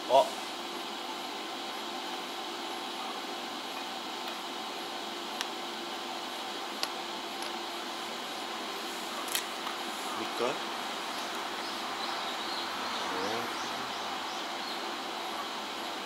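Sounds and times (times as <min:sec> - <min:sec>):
welding machine humming: 0:00.0 - 0:16.0.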